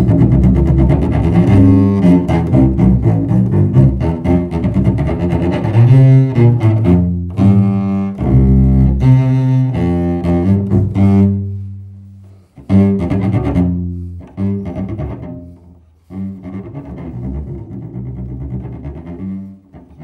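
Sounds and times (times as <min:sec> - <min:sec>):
bowed double bass: 0:00.0 - 0:20.0.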